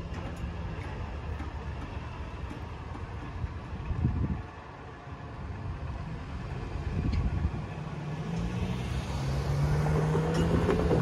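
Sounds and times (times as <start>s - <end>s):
cars driving over railroad crossing: 0.0s - 11.0s.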